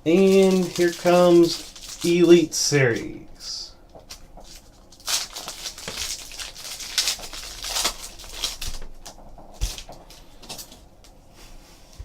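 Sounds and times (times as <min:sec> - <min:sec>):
wrapper crinkling and tearing: 0:00.1 - 0:03.2, 0:04.1 - 0:10.8.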